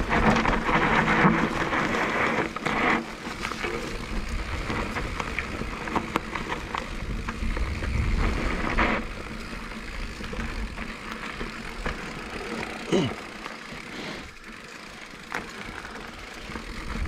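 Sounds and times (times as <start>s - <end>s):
bike clicks and rattles: 0.0s - 17.0s
tyres crunching on dirt trail: 0.0s - 17.0s.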